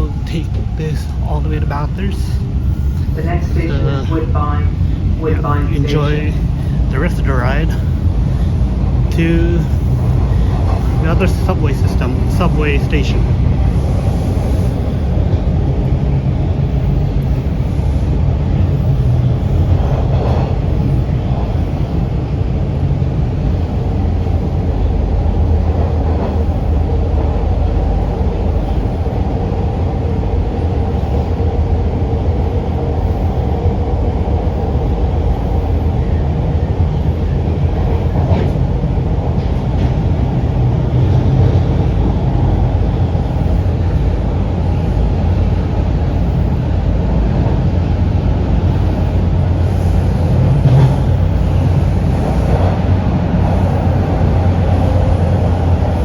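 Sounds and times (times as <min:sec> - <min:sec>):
train motors humming: 0:00.0 - 0:56.0
wheels rumbling on rail: 0:00.0 - 0:56.0.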